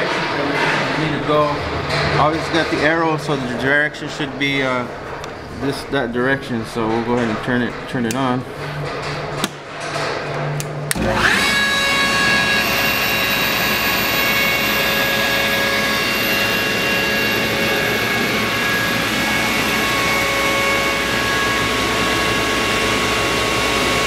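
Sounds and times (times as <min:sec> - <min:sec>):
air compressor whining: 0:00.0 - 0:24.0.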